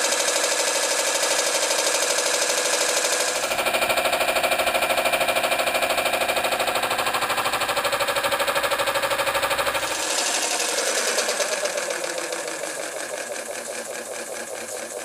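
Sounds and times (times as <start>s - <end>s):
model steam engine running: 0.0s - 15.0s.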